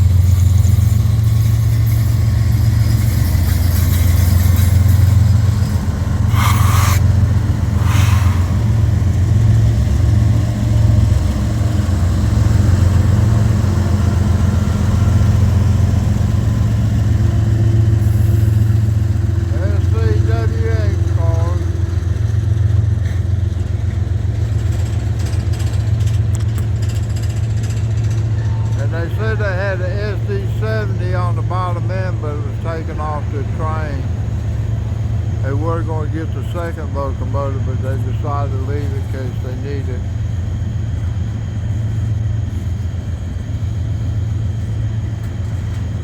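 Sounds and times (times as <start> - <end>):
diesel locomotive engine droning: 0.0 - 46.0
freight train rumbling: 0.0 - 46.0.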